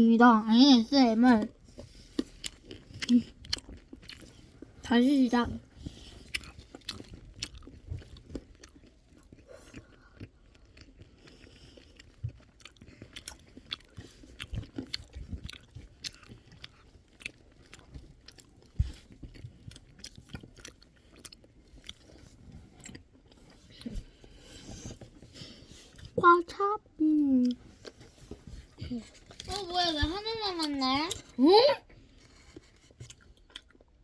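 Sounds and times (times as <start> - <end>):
crunchy sweets chewing: 0.8 - 34.0.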